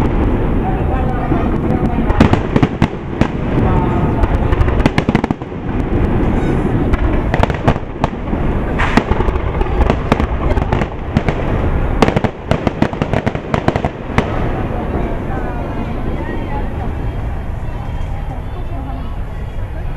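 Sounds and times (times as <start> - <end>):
low rumble of booms: 0.0 - 17.7
fireworks bangs and crackles: 0.0 - 18.2.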